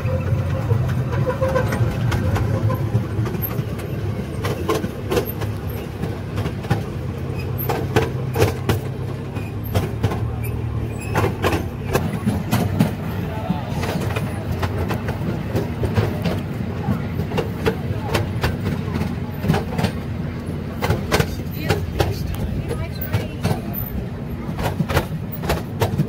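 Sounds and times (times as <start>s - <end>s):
train drone: 0.0s - 26.0s
wheels clacking over rail joints: 0.0s - 26.0s.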